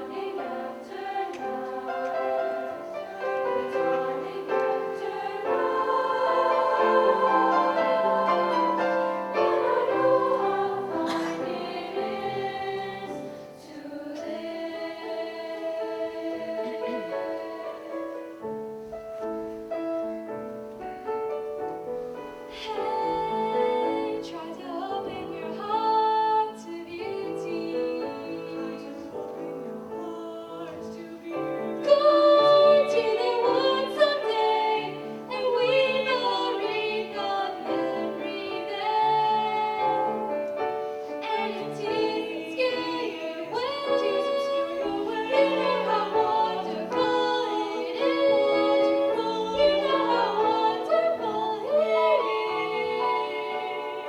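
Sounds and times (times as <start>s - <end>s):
vocal ensemble singing in harmony: 0.0s - 20.5s, 22.2s - 54.0s.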